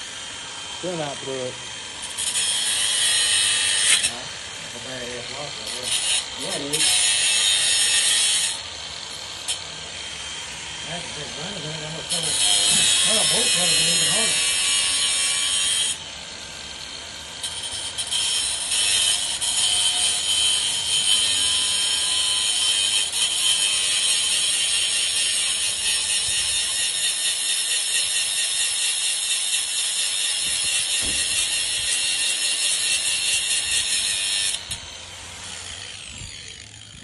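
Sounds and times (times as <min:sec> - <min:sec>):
power tool grinding metal: 0:00.0 - 0:37.0.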